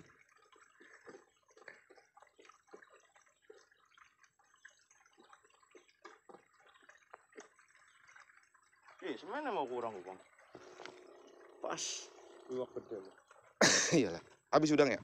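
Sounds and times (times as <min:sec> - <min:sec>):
water dripping: 0:00.0 - 0:15.0
water lapping against platform: 0:00.0 - 0:15.0.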